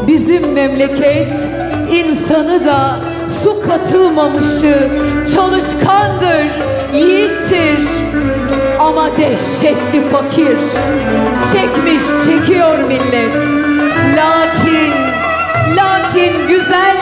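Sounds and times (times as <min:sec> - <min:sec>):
instrumental accompaniment: 0:00.0 - 0:17.0
woman singing into a microphone: 0:00.0 - 0:17.0.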